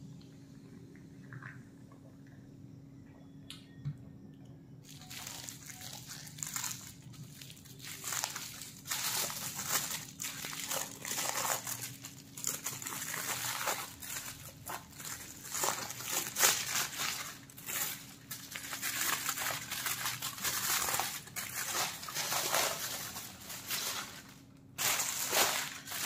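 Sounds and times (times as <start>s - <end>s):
aluminium foil crinkling: 4.8s - 26.0s.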